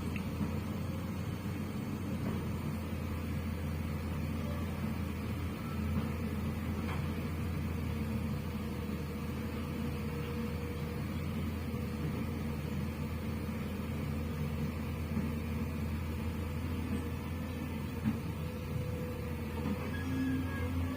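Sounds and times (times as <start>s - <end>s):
engine hum: 0.0s - 20.9s.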